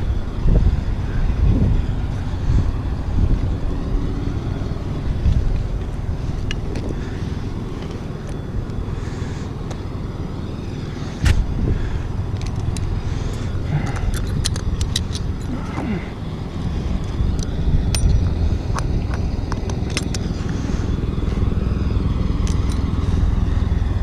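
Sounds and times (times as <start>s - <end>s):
low engine-like rumble: 0.0s - 24.0s.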